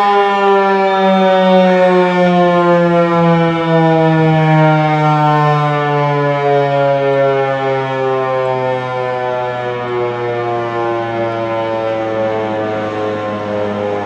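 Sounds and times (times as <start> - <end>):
warning siren winding down: 0.0 - 14.0.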